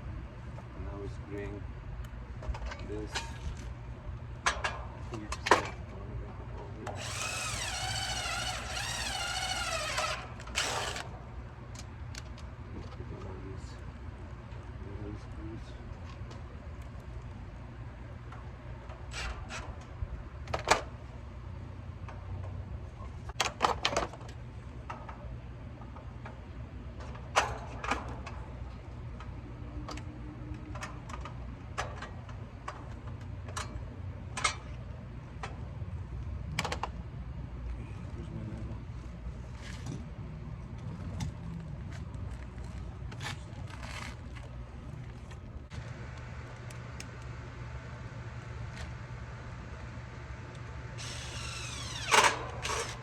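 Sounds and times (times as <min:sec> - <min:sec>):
steady low hum: 0:00.0 - 0:23.4, 0:24.1 - 0:53.0.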